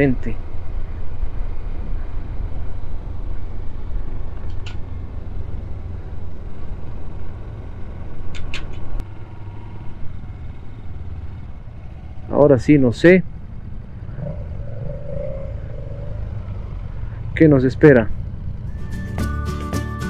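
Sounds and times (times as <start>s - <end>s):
motorcycle engine rumble: 0.0s - 19.4s.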